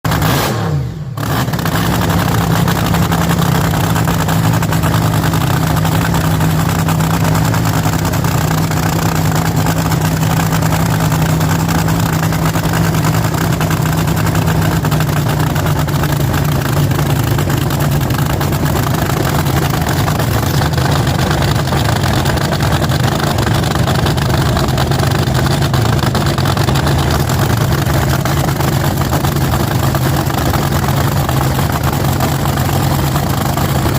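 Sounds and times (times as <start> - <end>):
drag car engine idling: 1.1 - 33.9.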